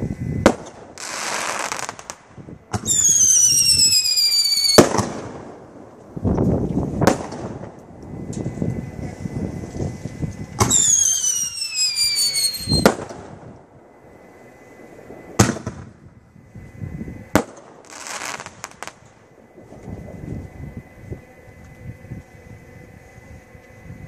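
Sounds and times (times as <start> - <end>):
firework bangs: 0.0 - 20.7
firework hiss and pops: 0.0 - 22.3
whistling firework: 0.0 - 24.0.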